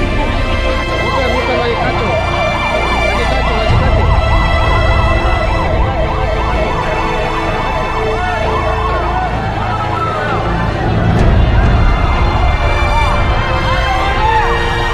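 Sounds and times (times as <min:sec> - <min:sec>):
fast yelping siren: 0:00.0 - 0:14.9
steady drone: 0:00.0 - 0:14.9.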